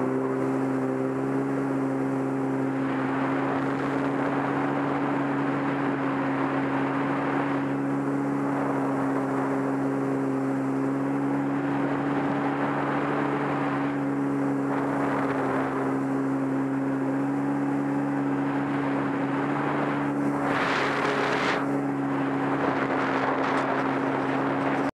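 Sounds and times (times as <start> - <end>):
water hissing along hull: 0.0 - 24.8
watercraft engine running: 0.0 - 24.9.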